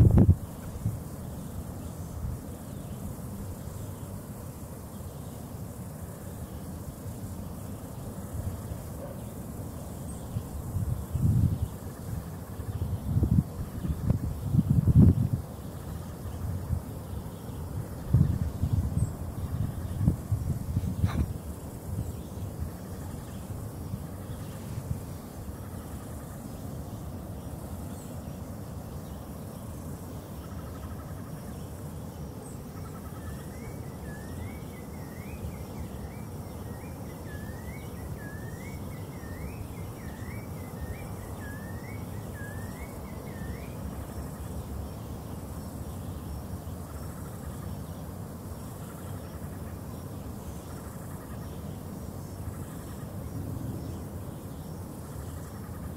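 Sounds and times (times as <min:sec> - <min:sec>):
faint insect trill: 0:00.0 - 0:55.9.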